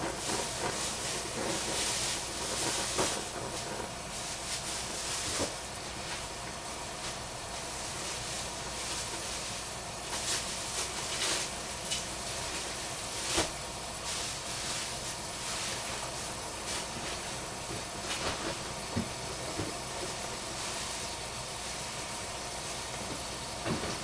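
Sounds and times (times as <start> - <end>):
food simmering with steady hiss: 0.0 - 24.0.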